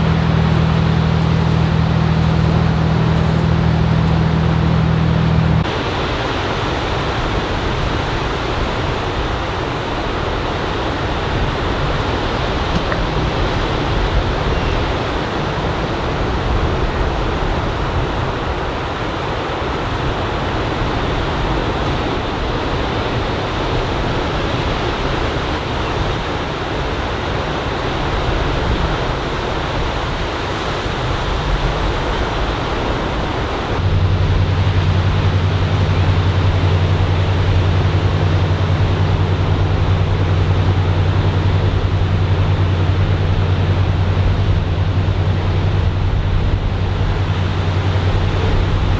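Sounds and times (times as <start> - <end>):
low steady hum: 0.0 - 26.4, 27.2 - 48.9
ocean surf breaking: 0.0 - 48.9.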